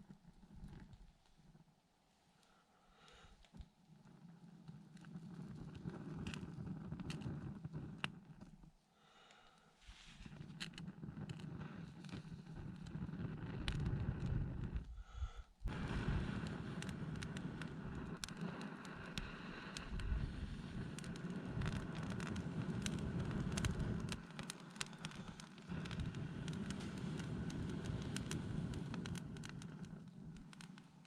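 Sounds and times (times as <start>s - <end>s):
small fire crackling: 0.0s - 31.0s.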